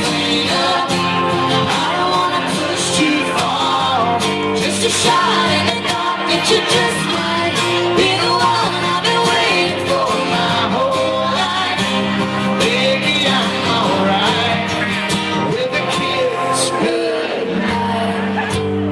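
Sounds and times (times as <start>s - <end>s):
person singing: 0.0s - 18.8s
live country band with guitar: 0.0s - 18.9s.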